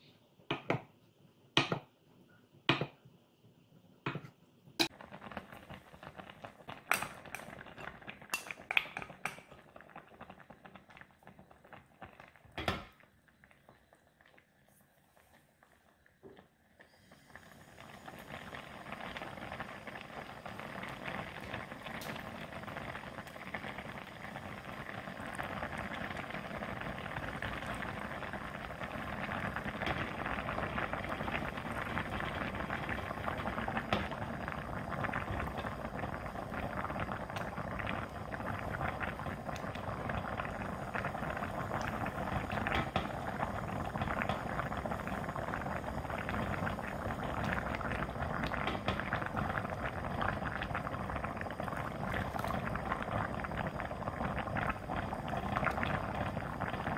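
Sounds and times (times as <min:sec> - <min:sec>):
stew boiling in a pot: 0:00.0 - 0:56.9.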